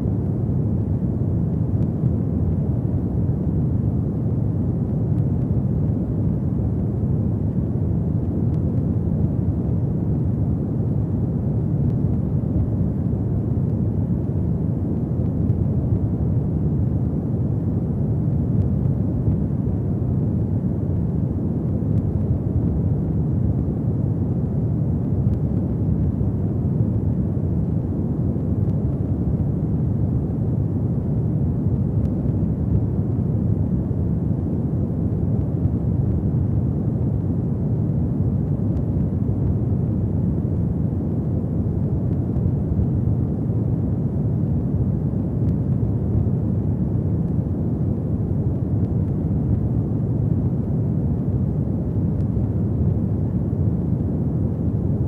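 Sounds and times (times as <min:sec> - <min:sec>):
fire burning rumble: 0:00.0 - 0:55.0.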